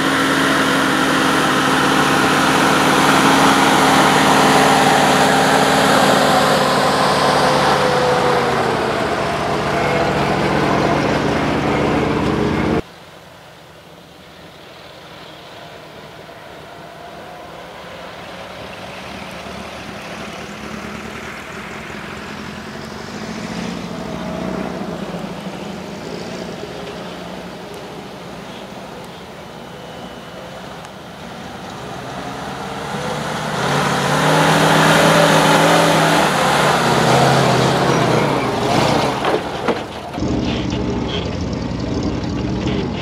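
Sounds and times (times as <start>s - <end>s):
truck engine running: 0.0s - 12.8s, 14.2s - 43.0s.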